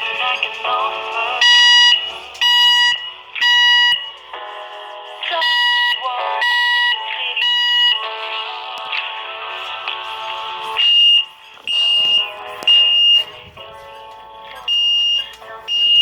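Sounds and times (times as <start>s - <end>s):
fire alarm beeping: 0.0s - 8.5s, 9.6s - 16.0s.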